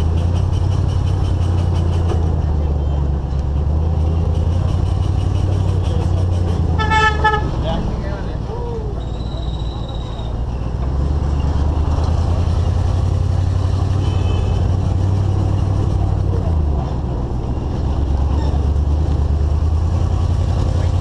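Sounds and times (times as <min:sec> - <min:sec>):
vehicle rumble on dirt road: 0:00.0 - 0:21.0.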